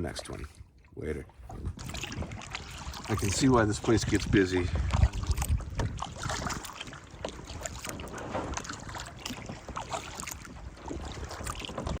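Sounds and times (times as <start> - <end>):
water lapping around a canoe: 0.0 - 12.0
wind on microphone: 0.4 - 12.0.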